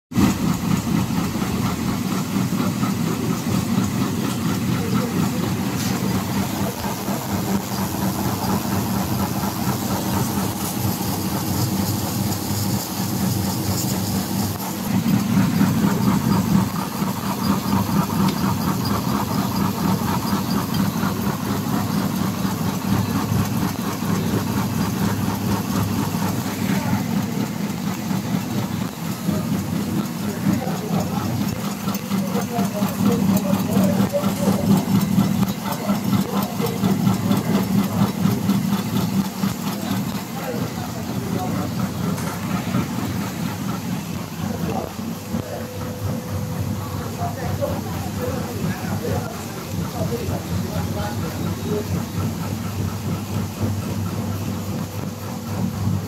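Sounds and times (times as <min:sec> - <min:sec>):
machine rattle and hum: 0:00.2 - 0:56.0.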